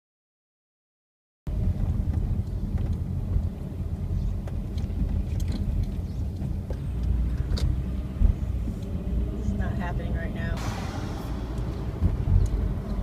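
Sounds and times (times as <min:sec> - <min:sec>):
car engine and road rumble: 0:01.5 - 0:13.0.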